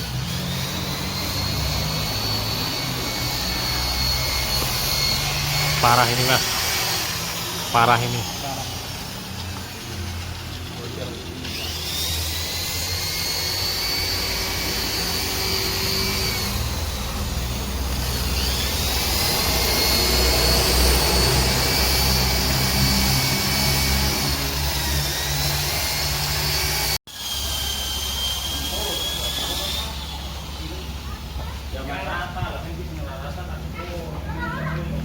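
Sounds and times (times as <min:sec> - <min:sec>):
power tool whining: 0:00.0 - 0:32.4.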